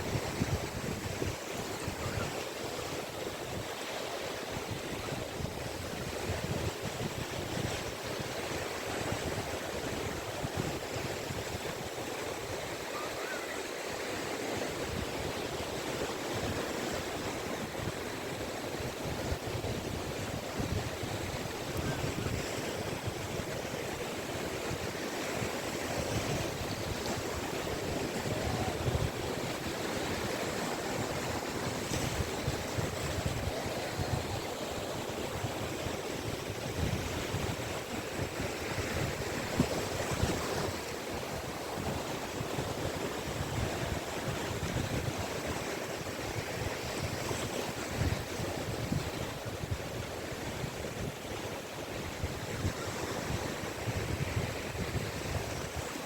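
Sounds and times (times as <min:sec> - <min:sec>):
sea waves washing onto beach: 0:00.0 - 0:56.0
wind on microphone: 0:00.0 - 0:56.0.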